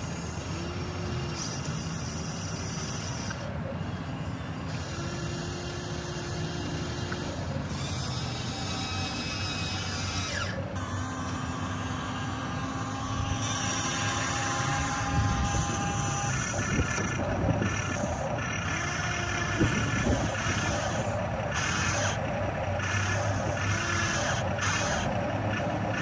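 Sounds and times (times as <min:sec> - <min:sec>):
small electric motors whirring: 0:00.0 - 0:26.0.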